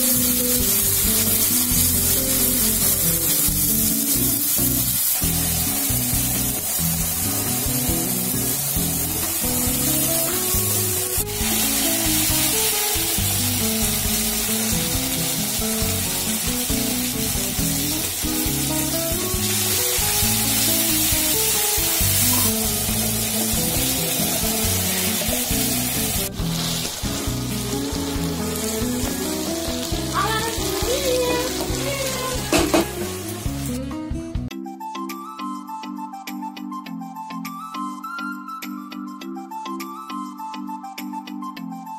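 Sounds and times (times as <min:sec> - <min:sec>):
masala sizzling in wok: 0:00.0 - 0:33.8
background music: 0:00.0 - 0:41.9.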